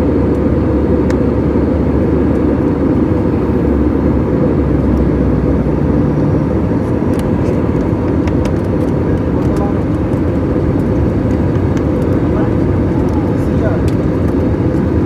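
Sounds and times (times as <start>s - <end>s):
jet engine roar in cabin: 0.0s - 15.0s.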